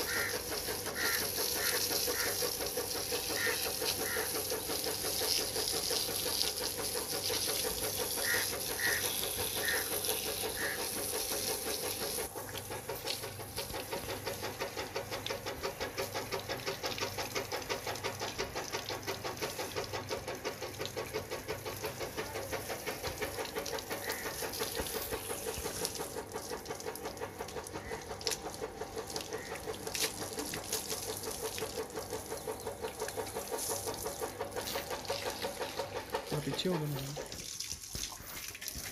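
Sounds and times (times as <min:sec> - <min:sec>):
machine running with fast pulse: 0:00.0 - 0:37.4.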